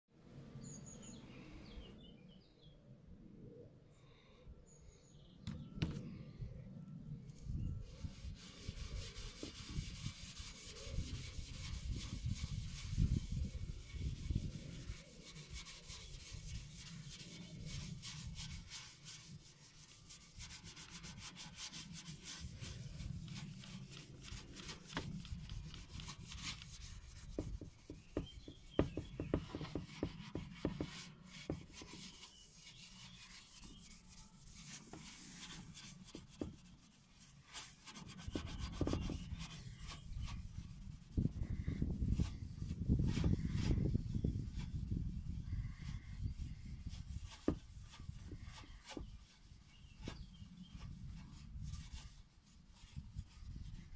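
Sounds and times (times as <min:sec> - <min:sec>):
steel wool scrubbing metal: 0:07.9 - 0:53.9.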